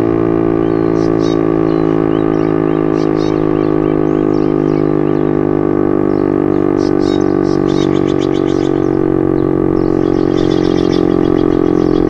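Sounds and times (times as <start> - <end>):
warning siren drone: 0.0 - 12.0.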